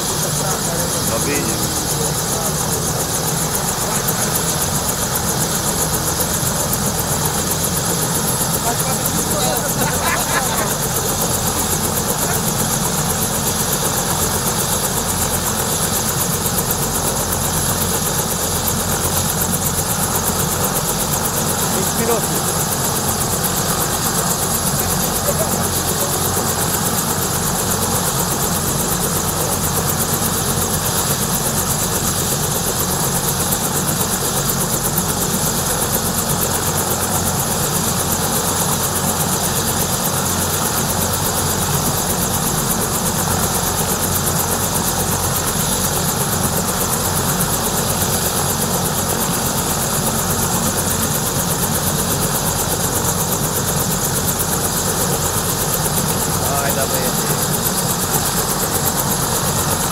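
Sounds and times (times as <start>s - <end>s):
helicopter turbine whine: 0.0s - 59.9s.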